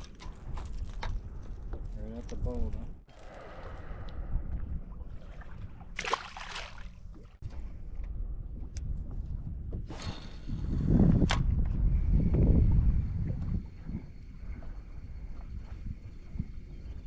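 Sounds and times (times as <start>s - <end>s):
wind rumble on microphone: 0.0s - 6.1s, 6.8s - 17.0s.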